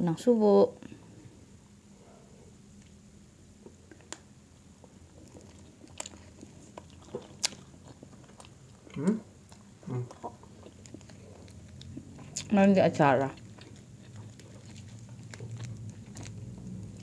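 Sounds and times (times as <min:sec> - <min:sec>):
people chewing food: 0:01.9 - 0:17.0.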